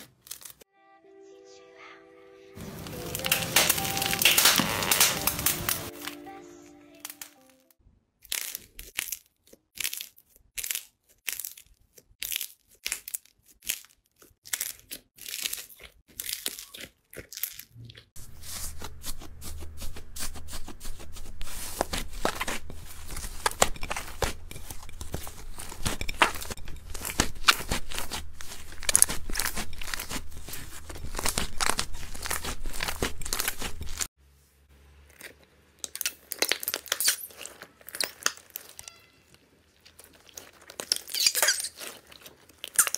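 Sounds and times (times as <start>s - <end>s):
slime crackling: 2.6s - 6.3s, 7.0s - 34.1s, 35.1s - 42.9s.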